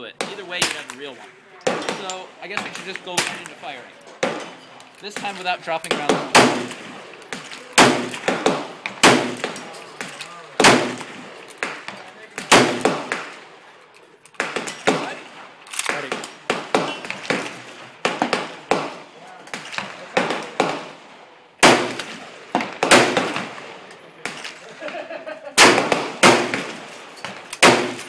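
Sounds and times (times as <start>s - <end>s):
distant gunshots: 0.2s - 13.6s, 14.4s - 25.0s, 25.6s - 28.0s
sharp rifle shots: 0.2s - 13.6s, 14.4s - 24.6s, 25.6s - 28.0s.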